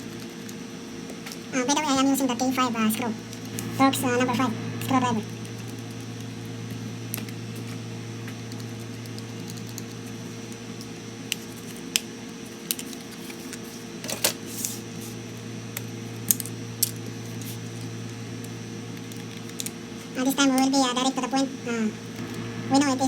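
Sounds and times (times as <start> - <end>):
steady low hum: 0.8 - 23.0.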